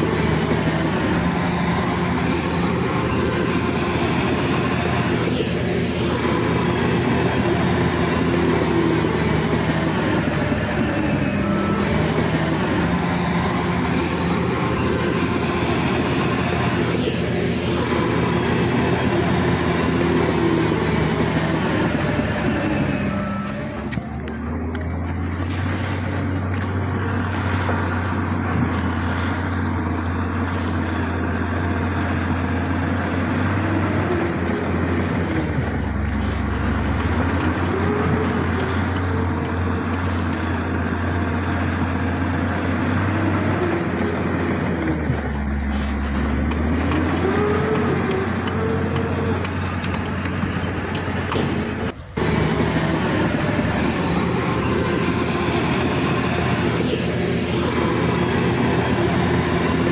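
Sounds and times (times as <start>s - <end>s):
bulldozer working: 0.0s - 59.9s
heavy diesel engines humming: 0.0s - 59.9s.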